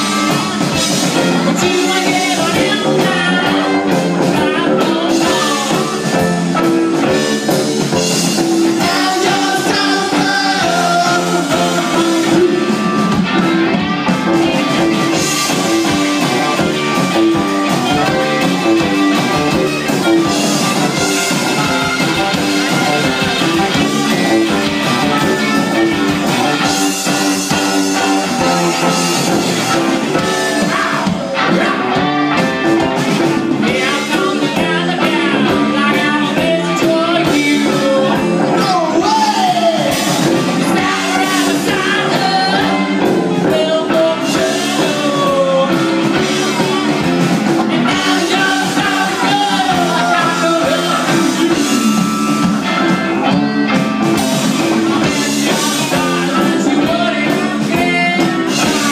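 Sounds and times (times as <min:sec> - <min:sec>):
drum kit: 0:00.0 - 0:58.9
electric guitar: 0:00.0 - 0:58.9
person singing: 0:00.0 - 0:58.9.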